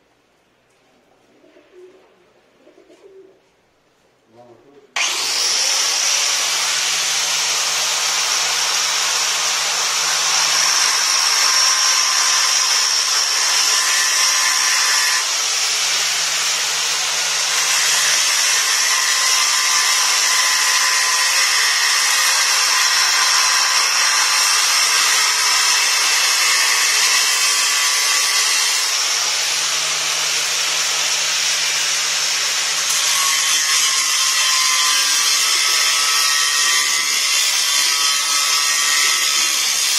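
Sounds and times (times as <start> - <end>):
power tool cutting stone: 5.0 - 39.9.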